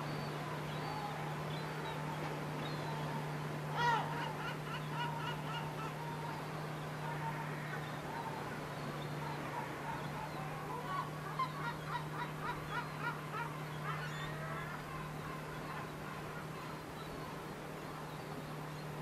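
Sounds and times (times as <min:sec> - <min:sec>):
gulls calling: 0:00.0 - 0:19.0
steady low hum: 0:00.0 - 0:19.0.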